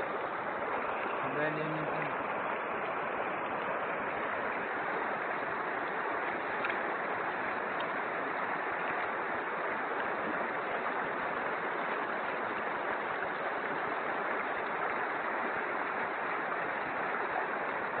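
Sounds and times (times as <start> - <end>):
floodwater rushing in river: 0.0 - 18.0.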